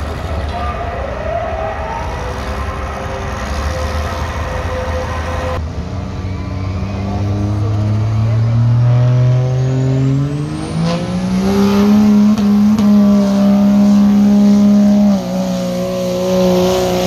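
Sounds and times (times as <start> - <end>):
diesel engines rumbling with whine: 0.0 - 17.0
pickup engine revving: 3.1 - 17.0.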